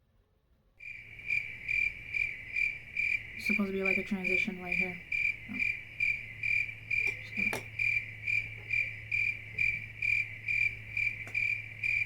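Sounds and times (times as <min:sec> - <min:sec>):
low electrical hum: 0:00.0 - 0:12.0
cricket-like chirping: 0:00.8 - 0:12.0.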